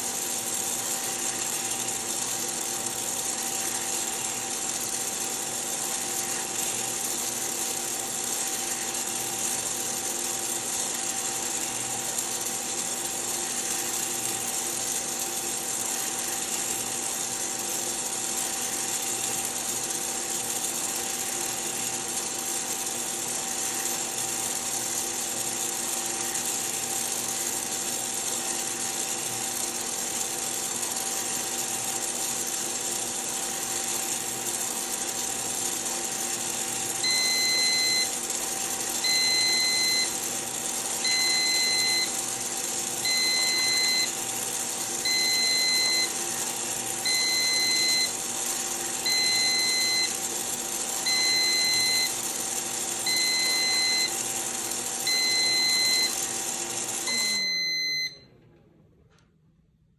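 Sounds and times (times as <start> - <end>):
motor hum with whine: 0.0 - 59.4.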